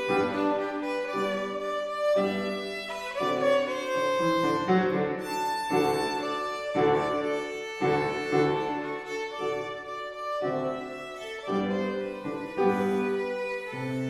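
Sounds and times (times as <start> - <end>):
bowed string instrument melody: 0.0 - 14.0.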